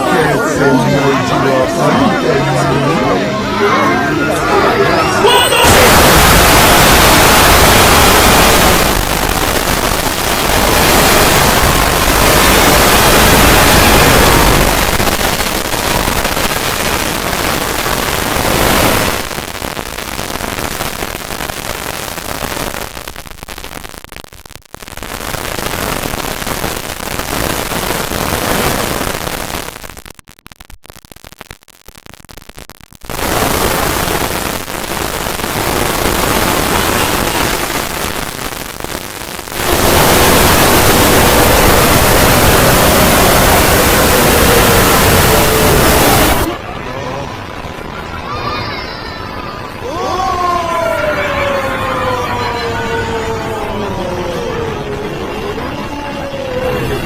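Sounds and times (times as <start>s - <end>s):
harsh distorted static noise: 0.0s - 57.0s.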